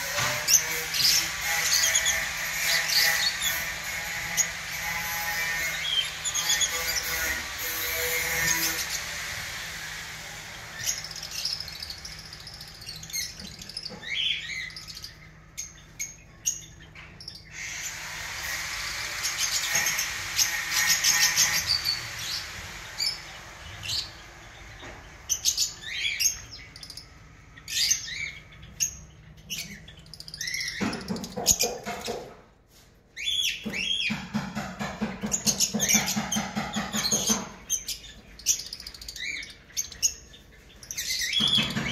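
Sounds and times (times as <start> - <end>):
lovebirds chirping and squawking: 0.0 - 41.9.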